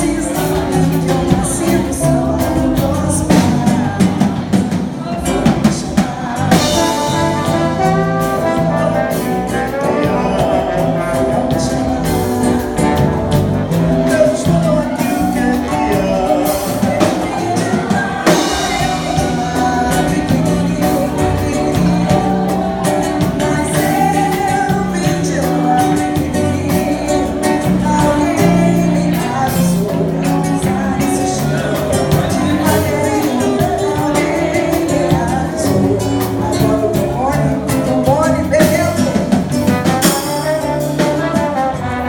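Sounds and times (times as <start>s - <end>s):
singer with brass band: 0.0s - 42.0s.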